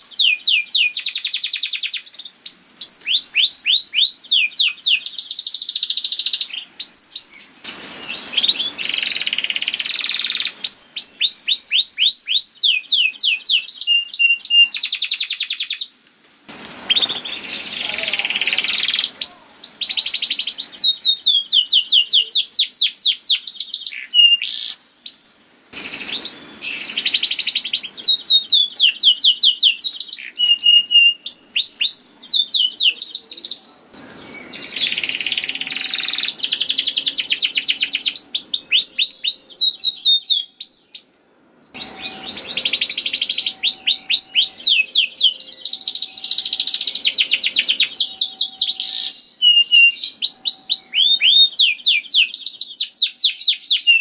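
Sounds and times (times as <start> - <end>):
canary singing trills: 0.0 - 16.0, 16.8 - 54.0.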